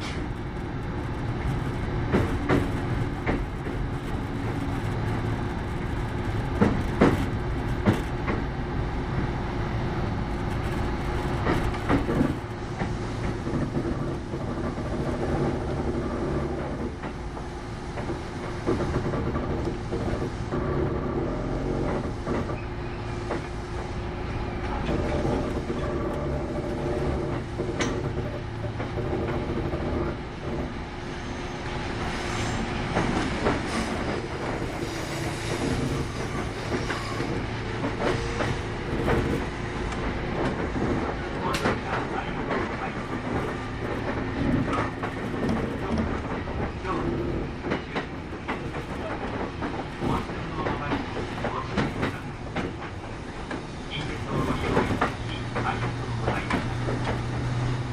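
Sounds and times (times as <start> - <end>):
wheels clacking over rail joints: 0.0 - 8.6, 10.4 - 24.0, 24.6 - 30.8, 32.0 - 57.9
train running noise: 0.0 - 57.9.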